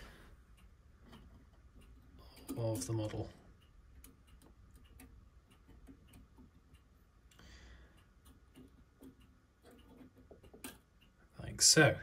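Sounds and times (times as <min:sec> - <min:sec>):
tweezers clicking on plastic: 0:00.5 - 0:11.3.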